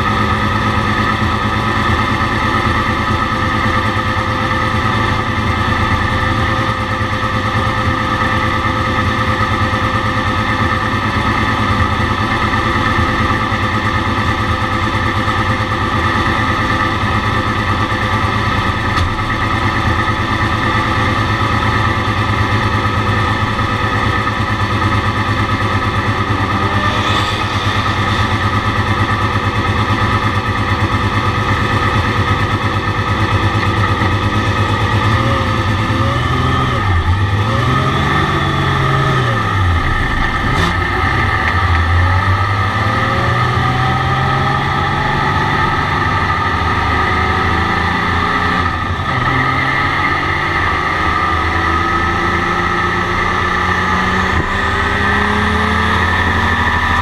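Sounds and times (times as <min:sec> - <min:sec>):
race car engine pulsing: 0:00.0 - 0:57.0.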